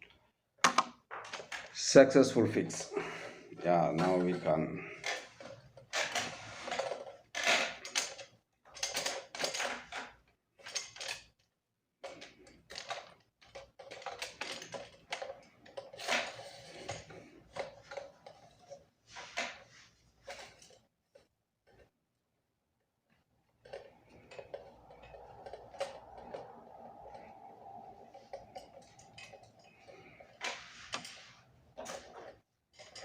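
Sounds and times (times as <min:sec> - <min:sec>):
plastic and metal parts rattling: 0:00.6 - 0:21.9, 0:23.6 - 0:33.0.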